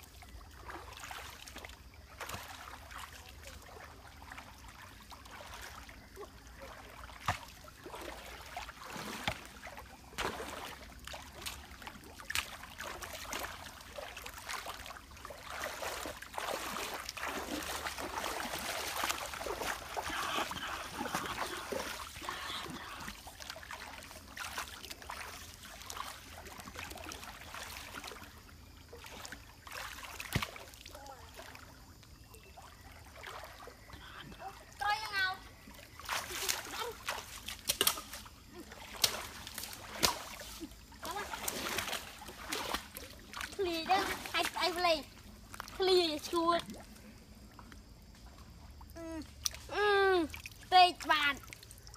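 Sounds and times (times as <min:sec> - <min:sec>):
feet wading and splashing: 0:00.0 - 0:51.9
water trickling: 0:00.0 - 0:51.9.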